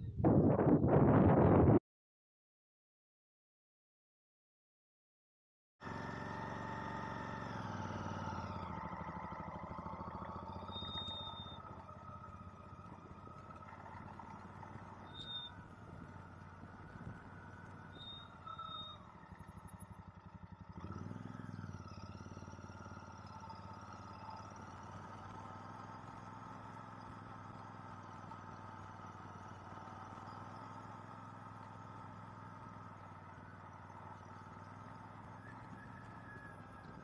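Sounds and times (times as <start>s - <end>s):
motorcycle engine running: 5.8s - 37.0s.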